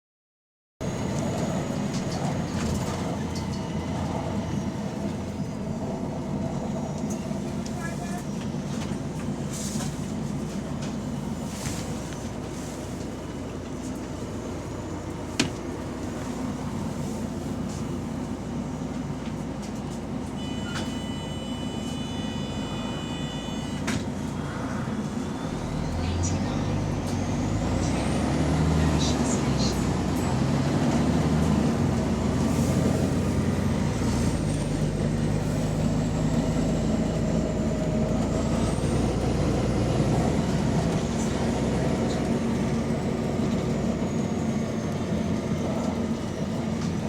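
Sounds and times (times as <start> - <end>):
bus diesel engine rumble: 0.8 - 47.0.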